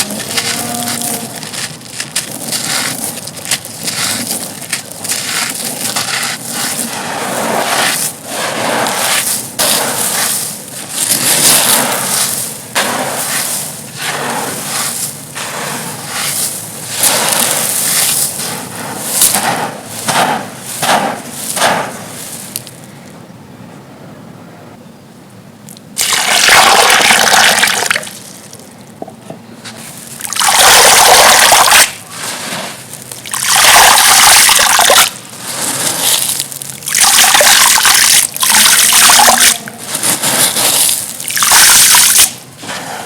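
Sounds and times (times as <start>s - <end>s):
stone chunks crunching: 0.0s - 22.9s, 30.0s - 42.8s.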